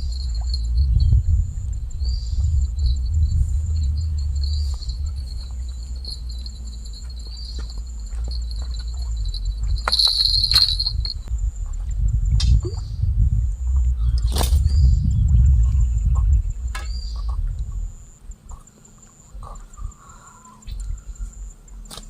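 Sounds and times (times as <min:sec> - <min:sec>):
low rumble: 0:00.0 - 0:18.2
insects trilling: 0:00.0 - 0:22.0.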